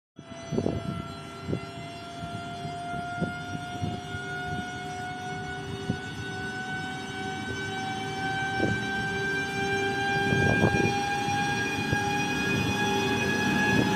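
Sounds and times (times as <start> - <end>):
electric locomotive motor whine: 0.2 - 13.9.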